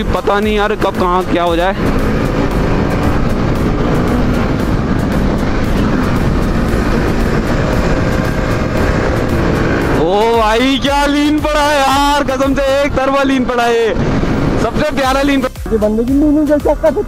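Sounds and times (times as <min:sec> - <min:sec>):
wind noise on microphone: 0:00.0 - 0:10.1, 0:10.9 - 0:17.0
motorcycle engine running: 0:00.0 - 0:17.0.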